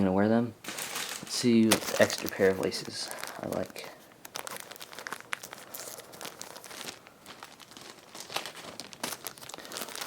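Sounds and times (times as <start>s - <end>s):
packet crinkling and rustling: 0.6s - 10.0s.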